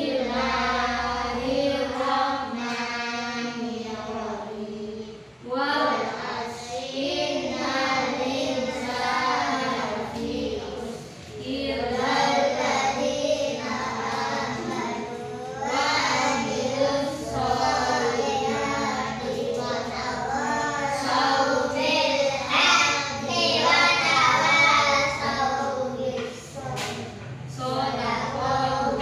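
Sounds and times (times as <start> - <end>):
children chanting in unison: 0.0 - 29.0.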